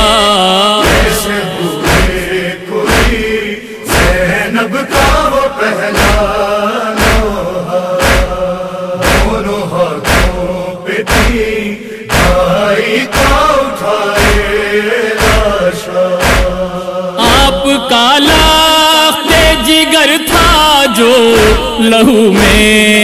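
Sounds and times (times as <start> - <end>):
chorus chanting refrain: 0.0 - 23.0
heavy chest-beating beats: 0.0 - 23.0.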